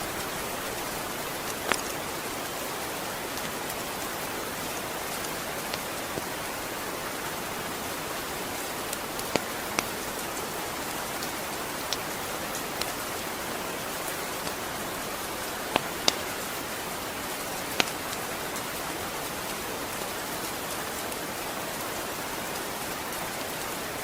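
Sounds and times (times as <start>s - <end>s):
sharp close raindrops: 0.0s - 24.0s
steady rain hiss: 0.0s - 24.0s.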